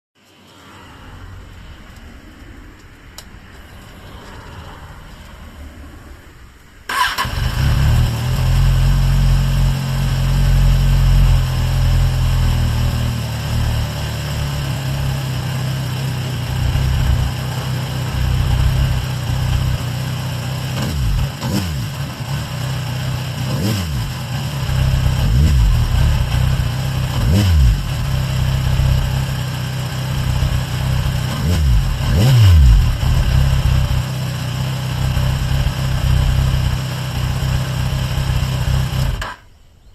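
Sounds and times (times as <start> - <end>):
motorcycle engine idling and revving: 6.9 - 39.5.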